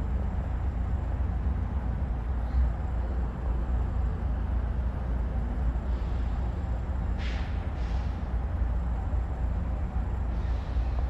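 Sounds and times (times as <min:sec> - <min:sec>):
distant freight train rumble: 0:00.0 - 0:11.0.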